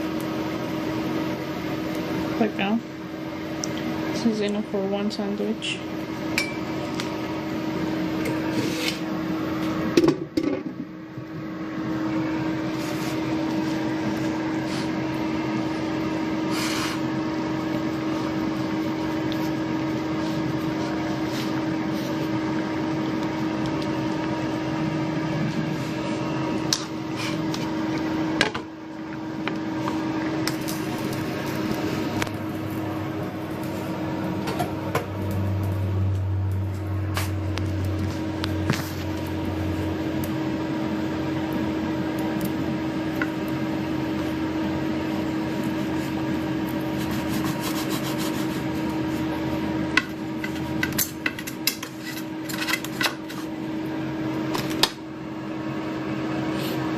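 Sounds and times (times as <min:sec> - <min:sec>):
appliance hum: 0:00.0 - 0:56.9.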